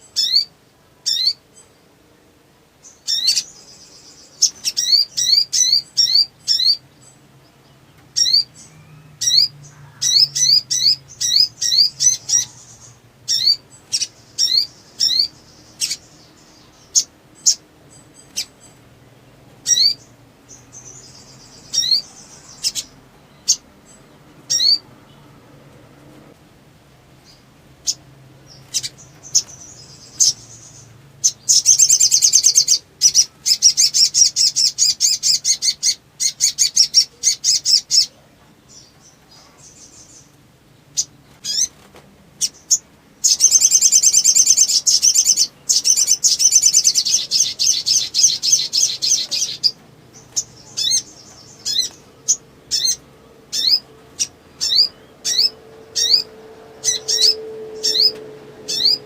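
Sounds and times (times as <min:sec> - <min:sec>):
sunbird singing rapid trills: 0:02.8 - 0:25.3, 0:27.2 - 0:41.8, 0:42.4 - 0:59.0.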